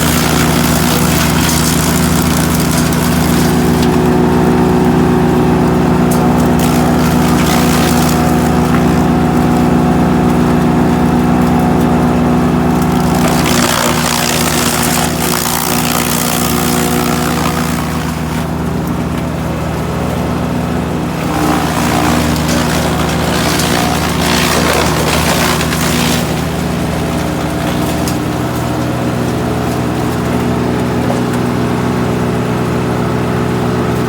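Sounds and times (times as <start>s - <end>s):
wood chipper running: 0.0s - 34.0s.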